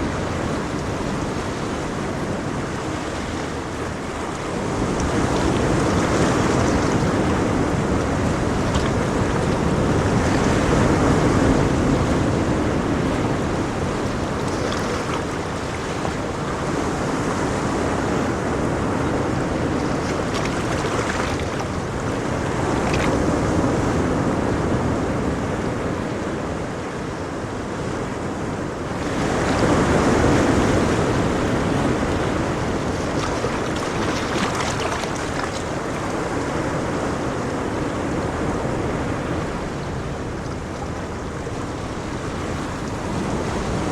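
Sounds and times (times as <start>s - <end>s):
ocean waves washing onto shore: 0.0s - 43.9s.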